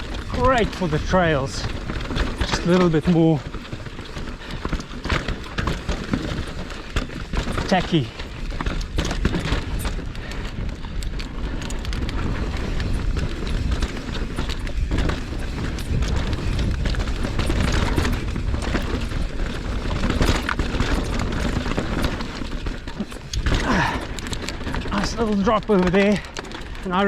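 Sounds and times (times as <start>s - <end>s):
bike rattling and knocking: 0.0s - 27.0s
bike tyres rumbling on dirt: 0.0s - 27.0s.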